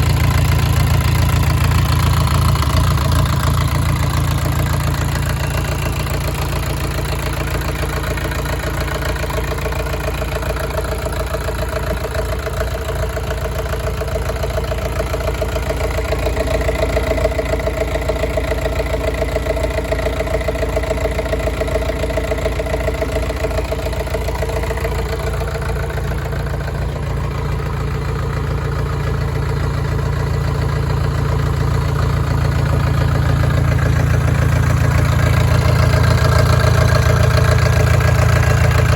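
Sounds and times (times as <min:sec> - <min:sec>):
diesel generator idling: 0:00.0 - 0:38.9.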